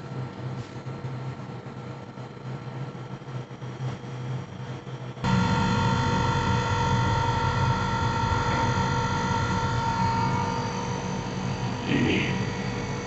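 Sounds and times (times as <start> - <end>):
air conditioner hum with whine: 0.0 - 13.0.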